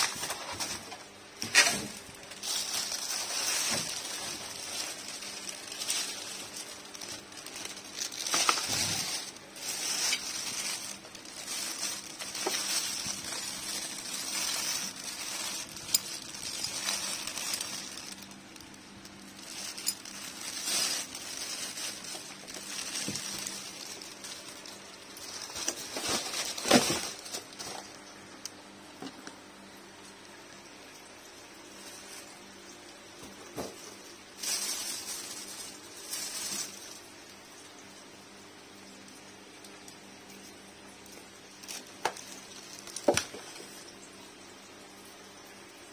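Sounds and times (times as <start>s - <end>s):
plastic wrapping crinkling: 0.0s - 29.8s, 31.3s - 37.5s, 41.1s - 44.1s.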